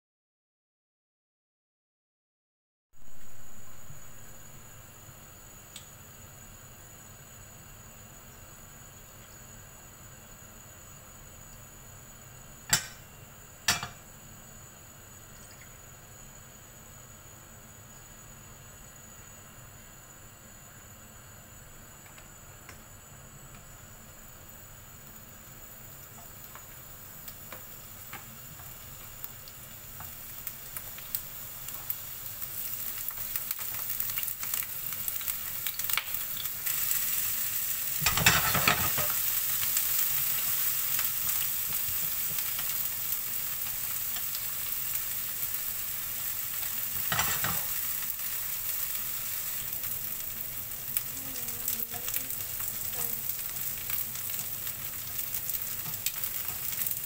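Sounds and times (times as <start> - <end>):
vegetables sizzling in oil: 3.0 - 57.0.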